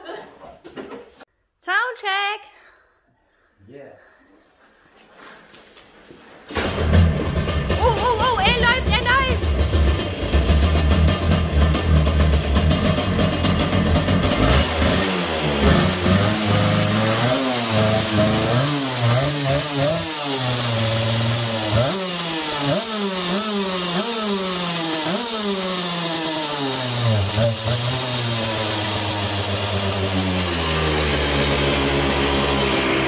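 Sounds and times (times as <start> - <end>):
go-kart engine revving: 6.5 - 33.0.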